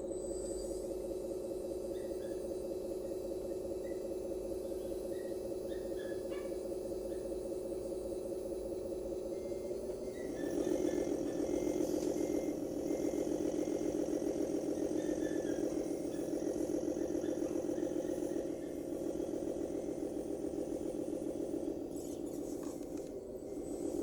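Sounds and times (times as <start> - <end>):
toy truck engine sound: 0.0 - 24.0.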